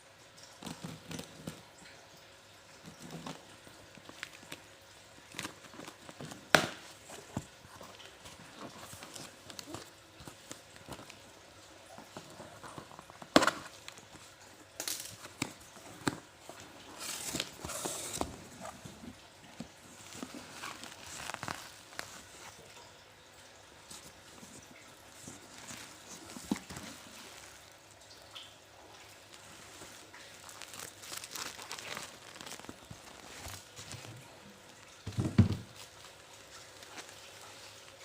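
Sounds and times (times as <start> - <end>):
packaging rustling: 2.8 - 22.7, 23.9 - 28.1, 29.3 - 37.9.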